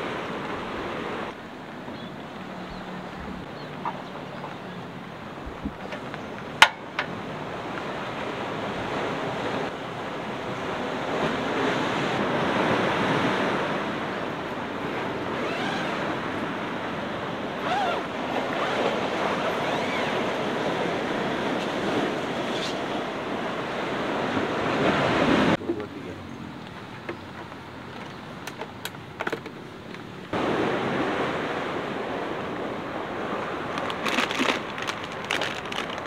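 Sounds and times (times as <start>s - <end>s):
sea waves washing on shore: 0.0s - 36.0s.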